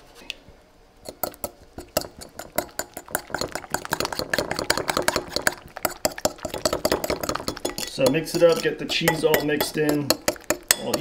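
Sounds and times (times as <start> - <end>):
fork clinking against bowl: 1.1 - 11.0.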